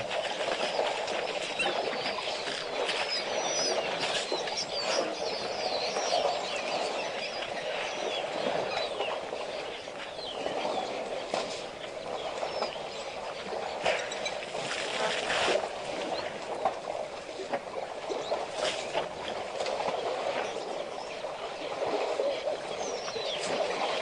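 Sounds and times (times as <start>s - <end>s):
birds chirping and chattering: 0.0s - 15.3s, 20.0s - 24.0s.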